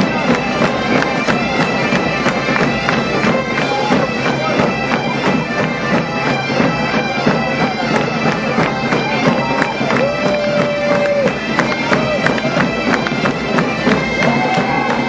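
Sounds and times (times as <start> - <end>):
bagpipes playing over drones: 0.0 - 15.0
side drums beating: 0.0 - 15.0.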